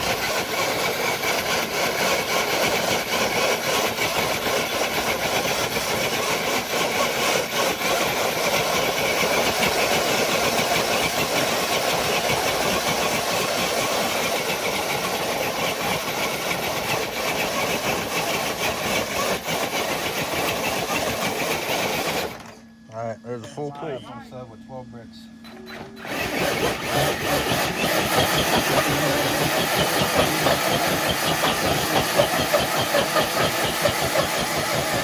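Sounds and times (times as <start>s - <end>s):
electric motor whining: 0.0s - 22.8s, 25.4s - 35.0s.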